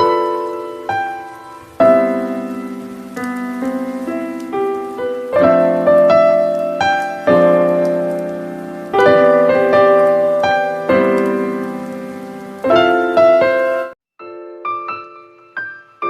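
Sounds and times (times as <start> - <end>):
ringtone piano melody: 0.0 - 16.0.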